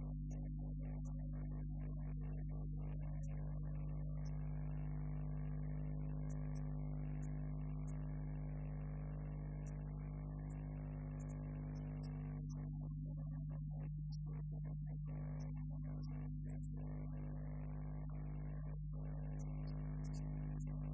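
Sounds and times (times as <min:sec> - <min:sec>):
electrical hum: 0:00.0 - 0:20.9.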